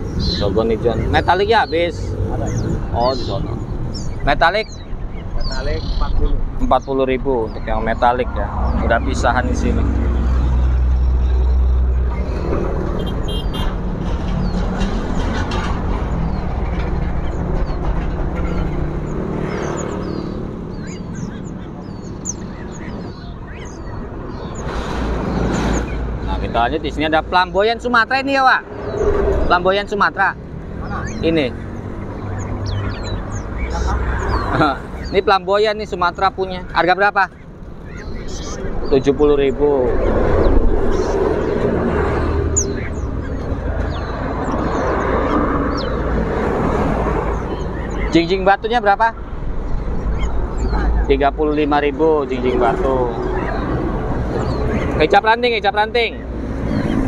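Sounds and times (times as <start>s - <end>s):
engine rumbling: 0.0s - 57.0s
songbirds chirping: 0.0s - 57.0s.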